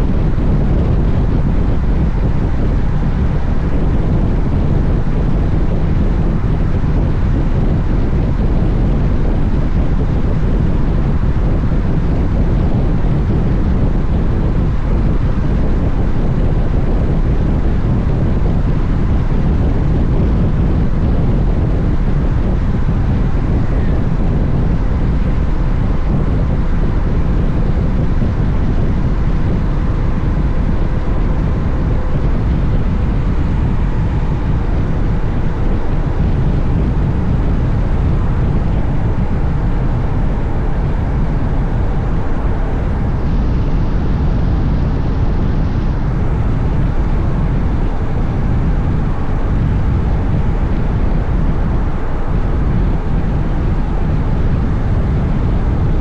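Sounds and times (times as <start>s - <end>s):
motorcycle road noise: 0.0s - 55.9s
faint engine hum: 0.0s - 56.0s
wind rush: 0.0s - 56.0s.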